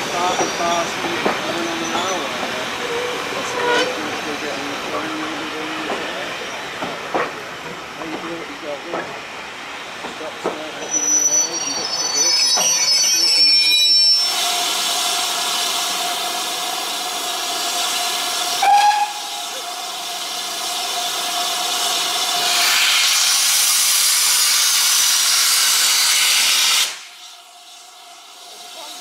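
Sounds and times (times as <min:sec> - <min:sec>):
steam locomotive hissing: 0:00.0 - 0:29.0.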